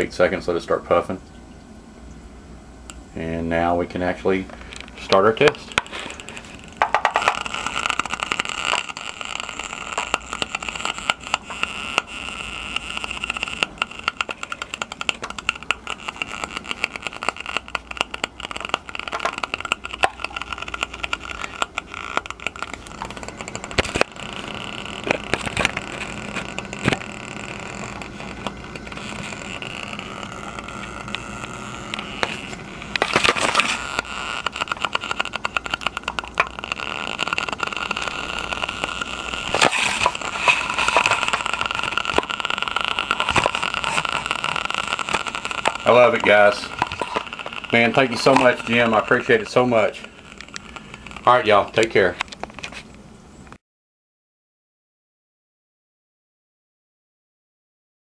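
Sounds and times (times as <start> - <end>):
small fan whirring: 0.0 - 53.6.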